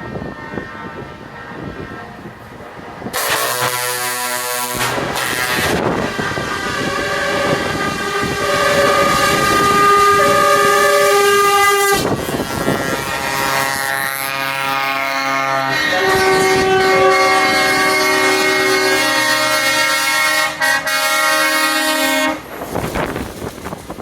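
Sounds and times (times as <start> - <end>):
diesel engines running: 0.0 - 24.0
truck air horns: 3.1 - 22.5.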